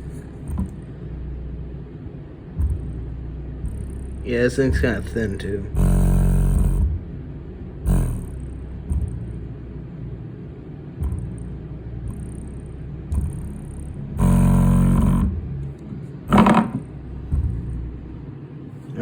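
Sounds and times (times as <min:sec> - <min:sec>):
buzzy bass hit: 0:00.0 - 0:10.2, 0:11.0 - 0:18.3
subwoofer deep bass pulses: 0:00.0 - 0:19.0.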